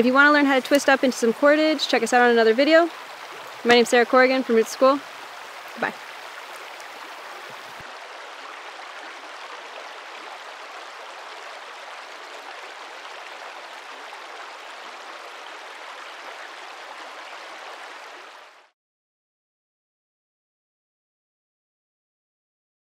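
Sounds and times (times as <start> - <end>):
flowing water rushing: 0.0 - 18.7.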